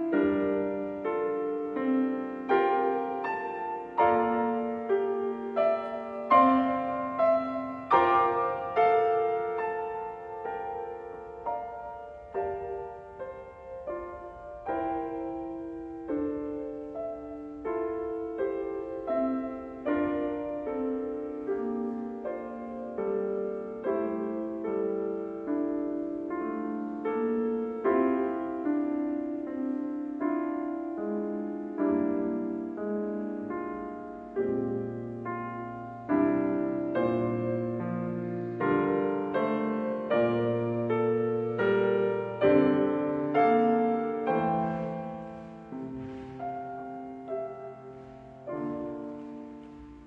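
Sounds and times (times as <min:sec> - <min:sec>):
solo piano notes and chords: 0:00.0 - 0:50.0.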